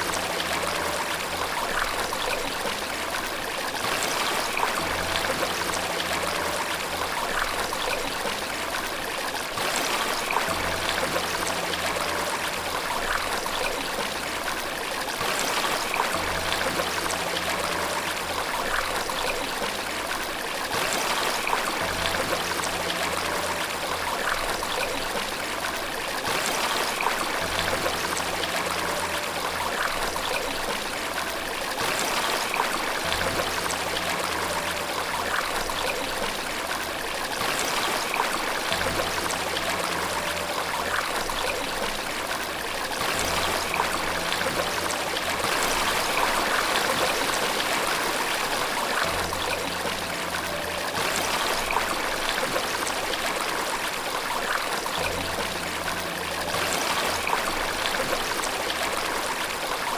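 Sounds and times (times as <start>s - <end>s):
running water rushing: 0.0s - 59.9s
soft relaxation music: 0.0s - 59.9s.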